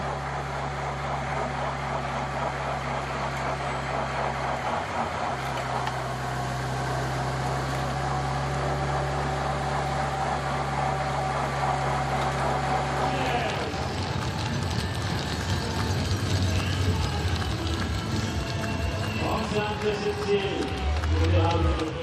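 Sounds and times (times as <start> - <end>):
road noise: 0.0 - 22.0
vehicle engine hum: 0.0 - 22.0
wind: 0.0 - 22.0.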